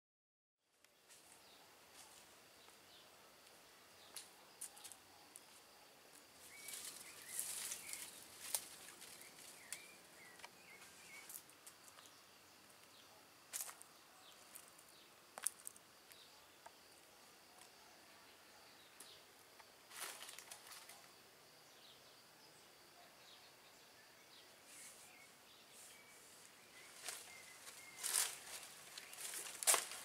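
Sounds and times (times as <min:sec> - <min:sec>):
small birds chirping: 0:00.8 - 0:30.0.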